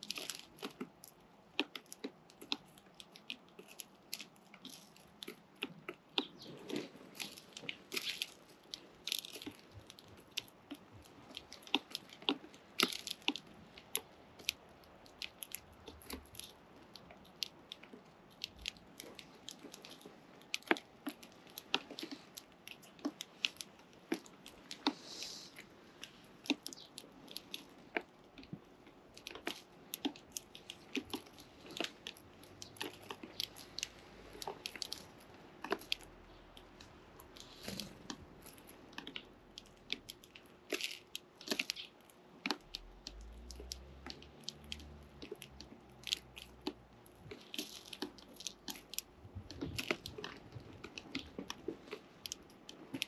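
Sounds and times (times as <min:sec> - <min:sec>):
chicks pecking clicks: 0:00.0 - 0:53.0.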